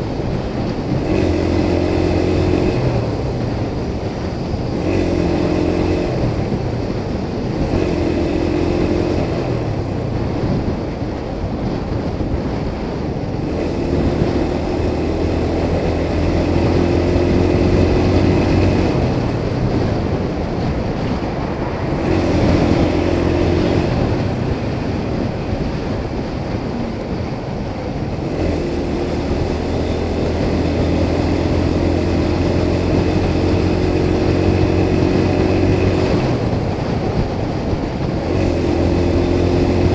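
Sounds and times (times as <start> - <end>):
motorcycle engine cruising: 0.0 - 39.9
wind rushing past microphone: 0.0 - 39.9.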